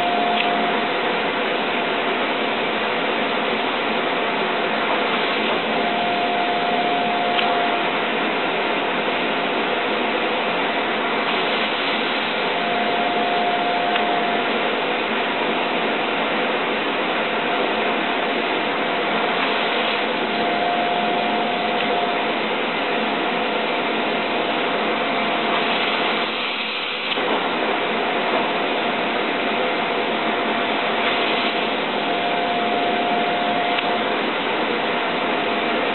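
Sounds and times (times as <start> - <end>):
vacuum suction rushing air: 0.0 - 35.9.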